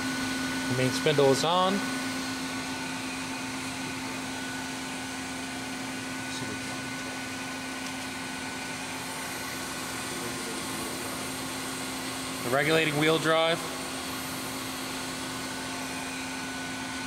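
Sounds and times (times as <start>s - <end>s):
grinder machine humming: 0.0s - 17.0s.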